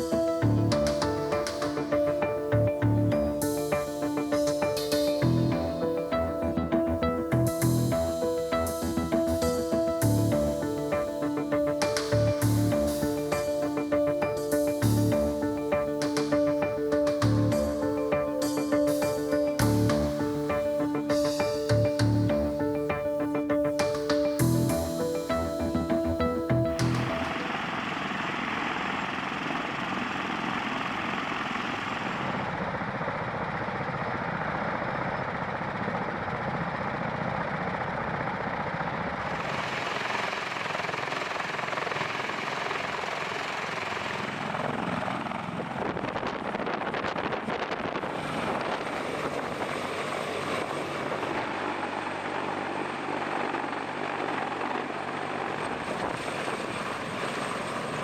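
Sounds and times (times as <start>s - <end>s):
aircraft engines rushing: 0.0s - 58.0s.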